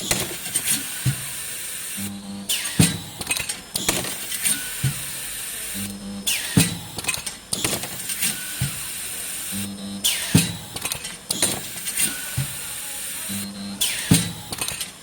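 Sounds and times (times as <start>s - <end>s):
welding machine clicks and clanks: 0.0s - 15.0s.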